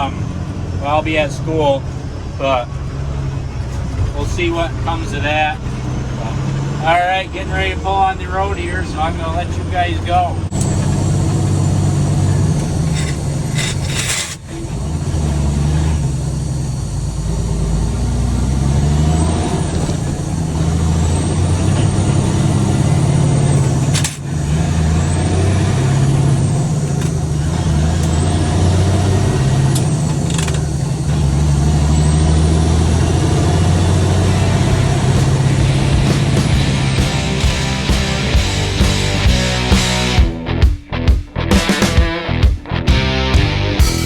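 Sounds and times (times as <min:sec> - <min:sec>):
truck diesel engine shifting gears: 0:00.0 - 0:44.0.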